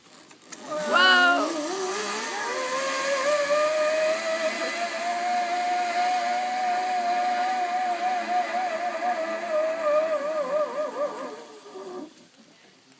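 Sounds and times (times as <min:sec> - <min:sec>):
zipline pulleys whining on cable: 0:00.4 - 0:12.2.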